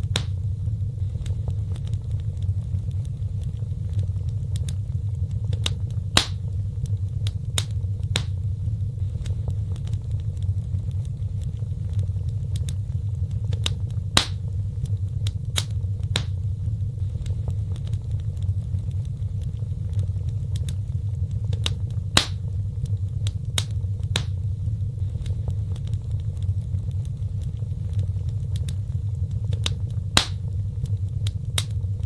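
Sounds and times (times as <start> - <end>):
fire pops and snaps: 0.0 - 32.0
low rumble of flames: 0.0 - 32.0.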